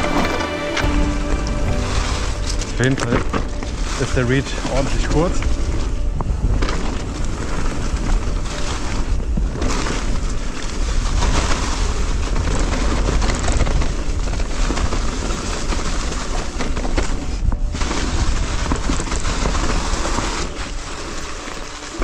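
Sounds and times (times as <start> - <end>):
bike knocks and rattles: 0.0 - 22.0
bike tyres rolling on dirt: 0.0 - 22.0
wind buffeting microphone: 1.1 - 22.0.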